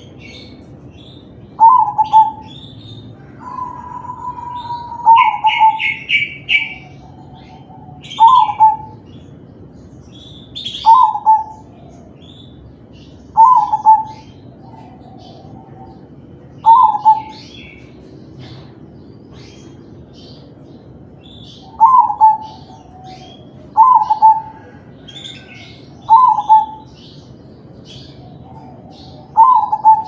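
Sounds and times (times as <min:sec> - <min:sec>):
dove cooing: 0:00.0 - 0:09.2, 0:10.6 - 0:12.4, 0:13.3 - 0:18.7, 0:21.2 - 0:27.2, 0:27.9 - 0:30.0
small birds chirping: 0:00.0 - 0:30.0.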